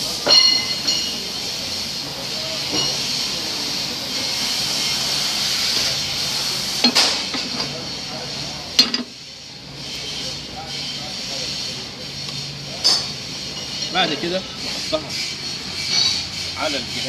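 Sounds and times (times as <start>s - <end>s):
gas hissing: 0.0s - 17.0s.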